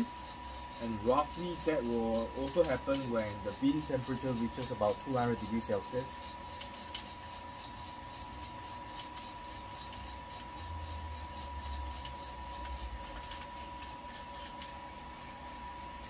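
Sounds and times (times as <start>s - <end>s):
coffee roaster motor and fan: 0.0s - 16.0s.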